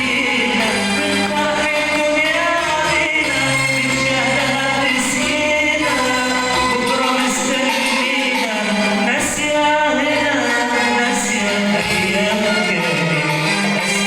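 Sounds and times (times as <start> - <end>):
instrumental accompaniment: 0.0 - 14.0
person singing: 0.0 - 14.0.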